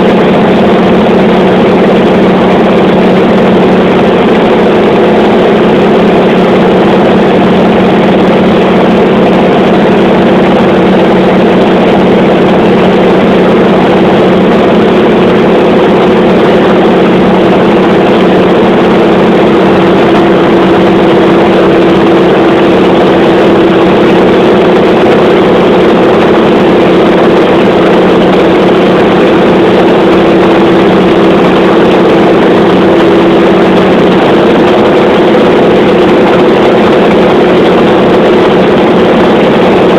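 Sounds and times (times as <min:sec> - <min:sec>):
radial aircraft engine drone: 0:00.0 - 0:39.9.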